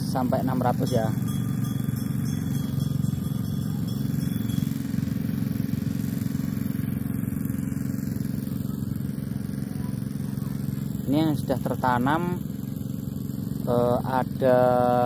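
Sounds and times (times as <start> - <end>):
small engine humming: 0.0 - 15.0.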